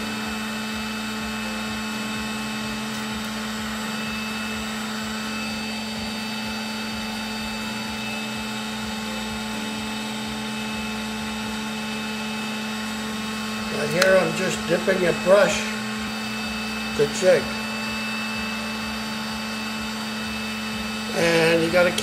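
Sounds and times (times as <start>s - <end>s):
air pump electric hum: 0.0s - 22.0s.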